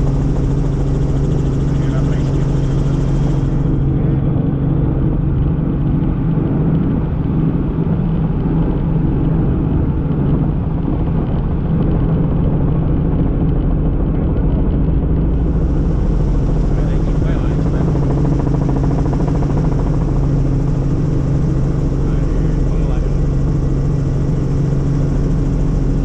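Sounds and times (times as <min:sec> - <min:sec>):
helicopter engine and rotors drone: 0:00.0 - 0:26.0.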